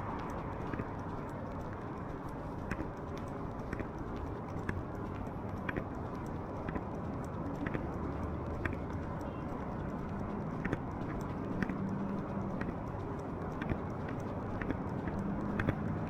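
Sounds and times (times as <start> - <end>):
footsteps on pavement: 0.0 - 16.0.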